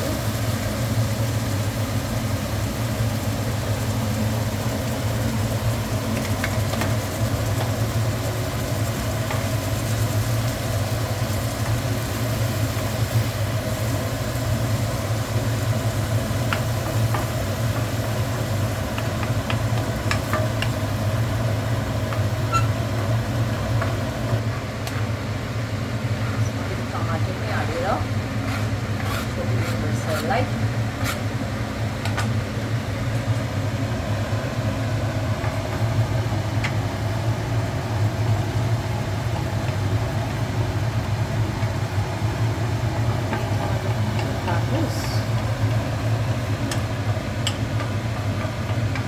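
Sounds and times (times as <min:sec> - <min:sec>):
food frying in oil: 0:00.0 - 0:49.0
steady low hum: 0:00.0 - 0:49.0.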